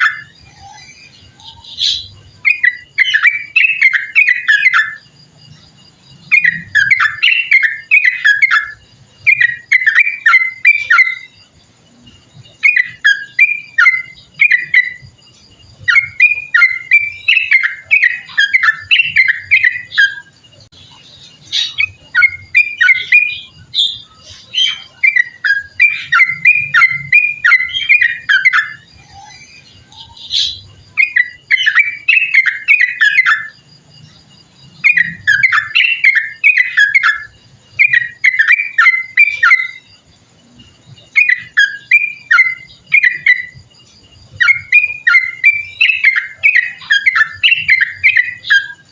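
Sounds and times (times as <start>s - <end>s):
bird singing rolling song: 0.0s - 48.9s.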